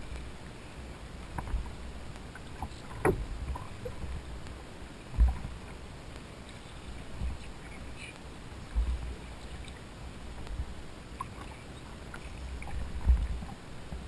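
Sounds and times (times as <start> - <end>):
faint water wash: 0.0 - 14.0.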